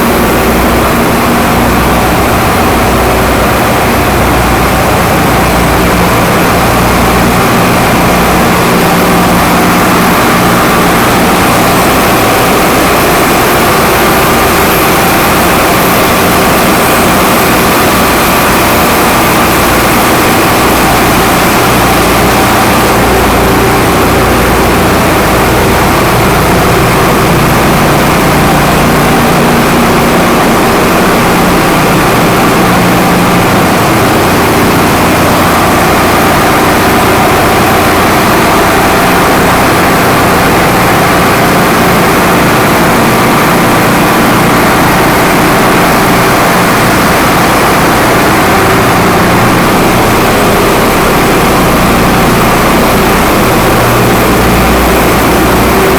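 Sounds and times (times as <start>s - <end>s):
heavy engine room machinery: 0.0s - 55.9s.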